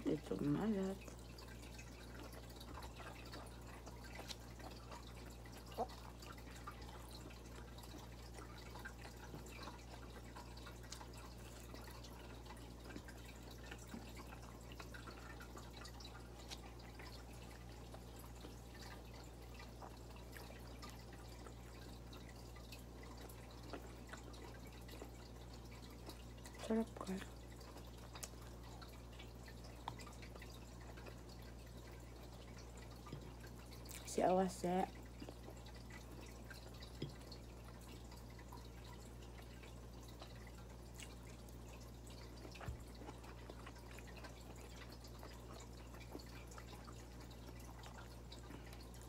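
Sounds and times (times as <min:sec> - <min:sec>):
faint chewing mouth sounds: 0:00.0 - 0:49.0.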